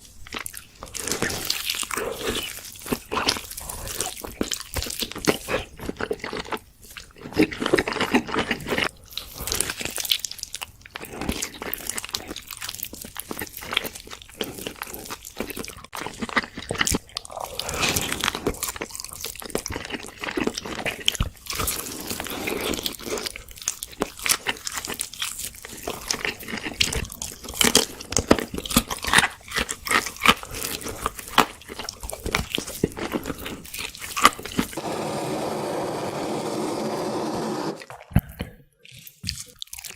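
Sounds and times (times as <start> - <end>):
crunchy bites and chewing: 0.2 - 34.8, 37.8 - 39.9.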